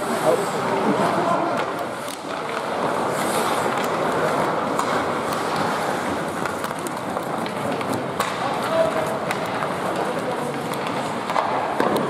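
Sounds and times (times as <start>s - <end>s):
skates on ice: 0.0s - 12.0s
clicks of sticks and puck: 0.1s - 12.0s.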